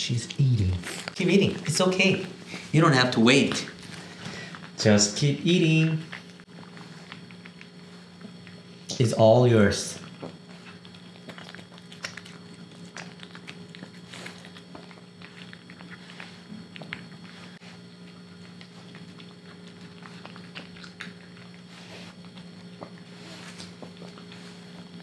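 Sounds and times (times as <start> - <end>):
steady low hum: 0.0 - 25.0
puppy chewing kibble: 0.1 - 25.0.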